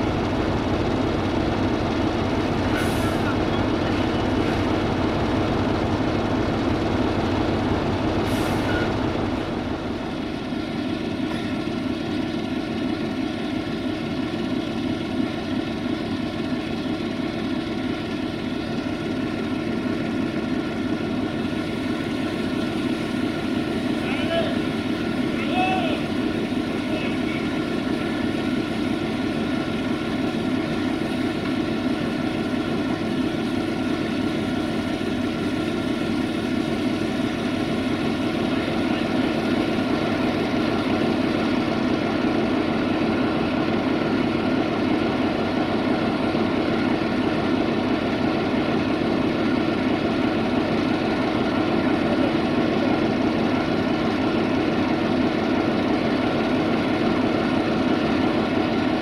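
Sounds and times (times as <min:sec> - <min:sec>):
engines running: 0:00.0 - 0:59.0.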